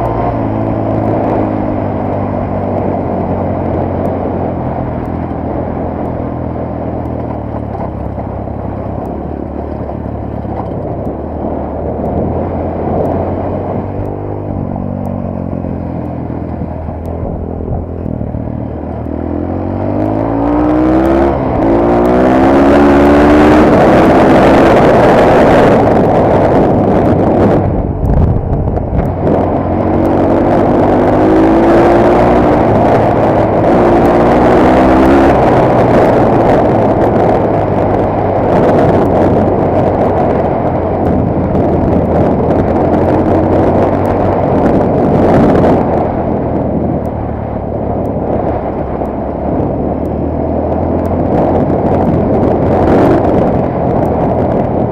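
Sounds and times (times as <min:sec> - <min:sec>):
motorcycle engine accelerating: 0:00.0 - 0:54.9
wind rush on microphone: 0:00.0 - 0:54.9.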